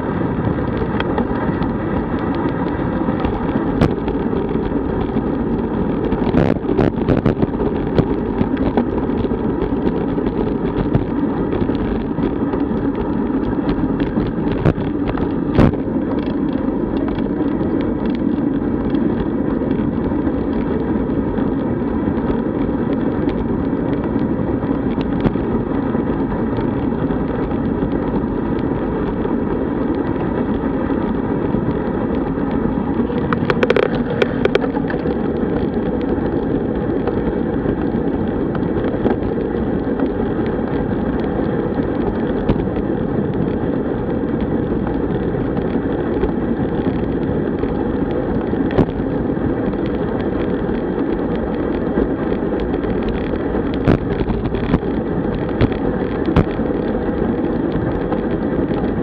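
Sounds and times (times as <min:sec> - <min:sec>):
bike tyre noise: 0:00.0 - 0:59.0
wind rushing: 0:00.0 - 0:59.0.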